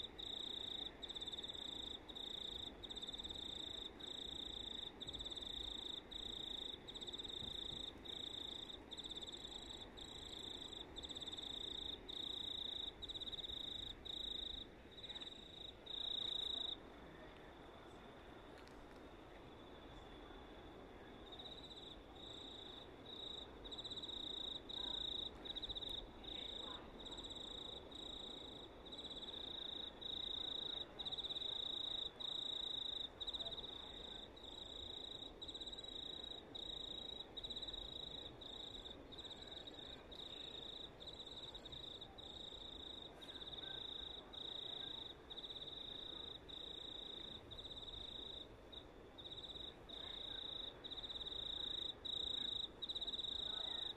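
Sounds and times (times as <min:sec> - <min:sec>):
faint low background noise: 0:00.0 - 0:53.9
cricket chirping: 0:00.1 - 0:16.8, 0:21.3 - 0:53.9.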